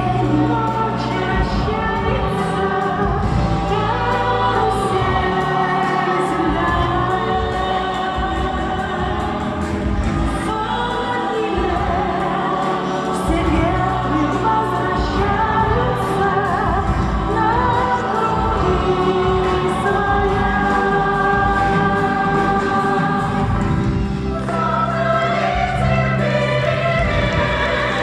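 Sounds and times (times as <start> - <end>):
instrumental accompaniment: 0.0 - 28.0
several voices singing: 0.0 - 28.0.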